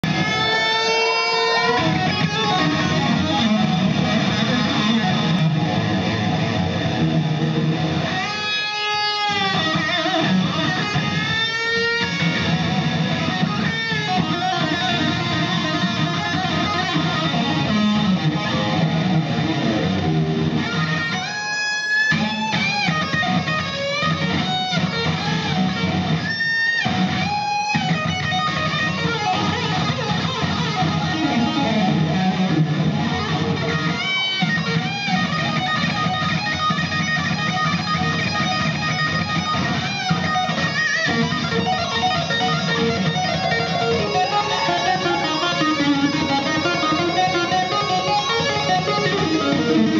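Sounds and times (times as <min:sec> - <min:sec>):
electric guitar with pitch bends: 0:00.0 - 0:49.9.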